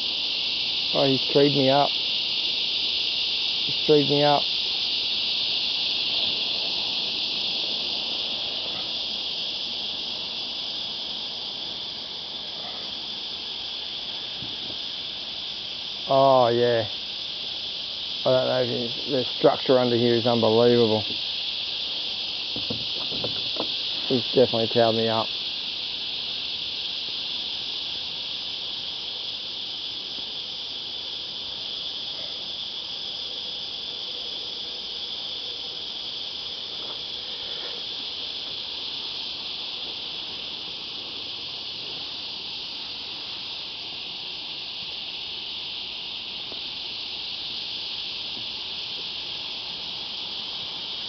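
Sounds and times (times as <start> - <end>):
cicadas droning: 0.0 - 51.0.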